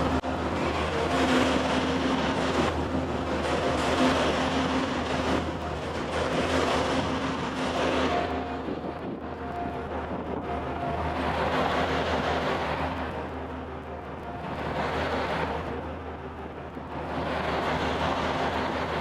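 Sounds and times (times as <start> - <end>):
loader engine running: 0.0 - 19.0.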